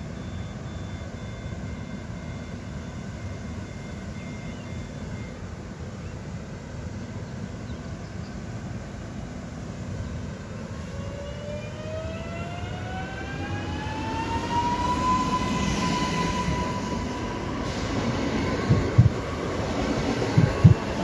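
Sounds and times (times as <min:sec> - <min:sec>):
rumble of train wheels: 0:00.0 - 0:21.0
train traction motor whine: 0:00.0 - 0:21.0.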